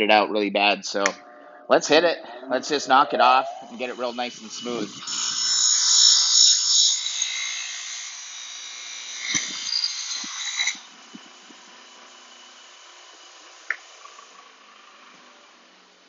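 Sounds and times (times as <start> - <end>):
grinder wheel spinning hum: 1.2 - 16.0.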